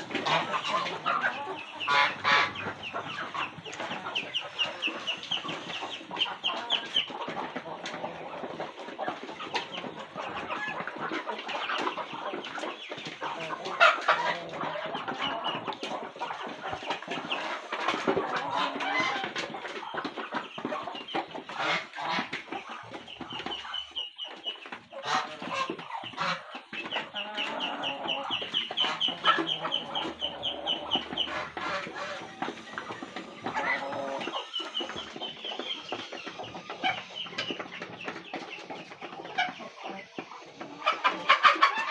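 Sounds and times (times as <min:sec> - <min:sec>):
beaks pecking at food: 0:00.0 - 0:41.9
chickens clucking: 0:00.0 - 0:41.9.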